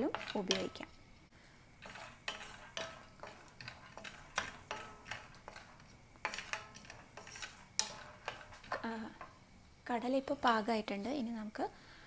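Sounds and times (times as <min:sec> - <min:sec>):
peanuts scraping in frying pan: 0:00.0 - 0:11.6
faint oil sizzle: 0:00.0 - 0:12.0.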